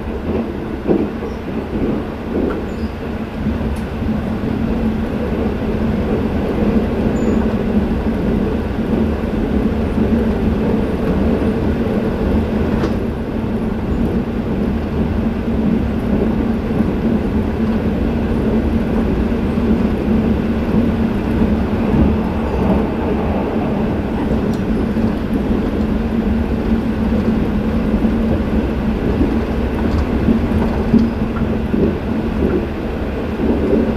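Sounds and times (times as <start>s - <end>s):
train running rumble: 0.0s - 33.9s.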